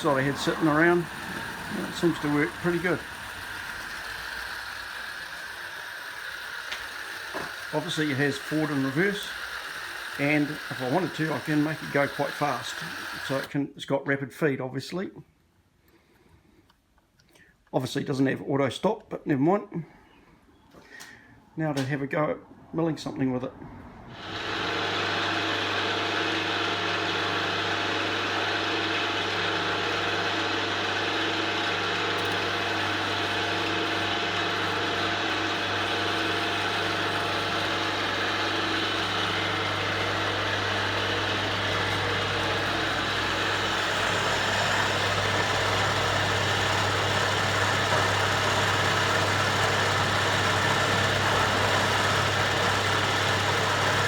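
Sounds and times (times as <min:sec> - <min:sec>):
battery drill driving chain: 0:00.0 - 0:13.5, 0:24.2 - 0:54.0
milling machine running: 0:00.0 - 0:13.5, 0:24.1 - 0:54.0.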